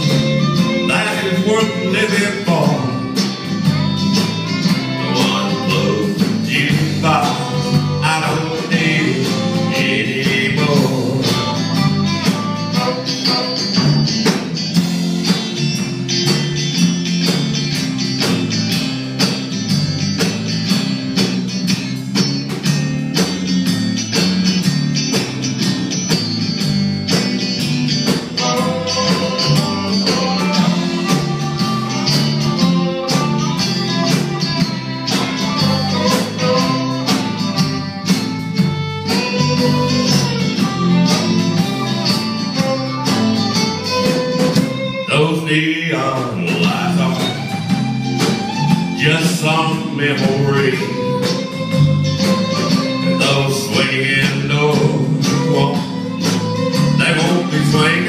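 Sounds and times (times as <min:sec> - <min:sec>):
fiddle melody: 0:00.0 - 0:58.0
live country band playing: 0:00.0 - 0:58.0.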